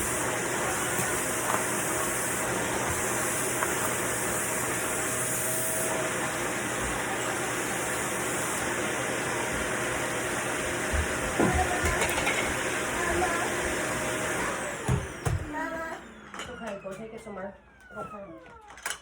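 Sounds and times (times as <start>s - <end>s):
vacuum cleaner running: 0.0s - 18.8s.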